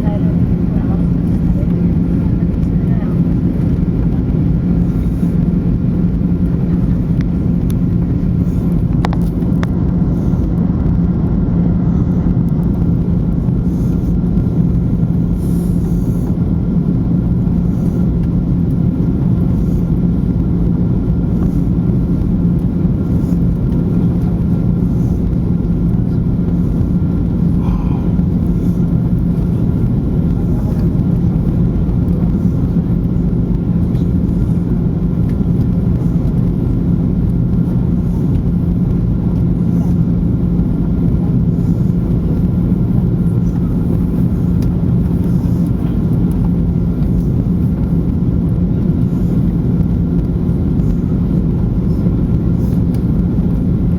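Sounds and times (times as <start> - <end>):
aircraft engines droning: 0.0 - 53.9.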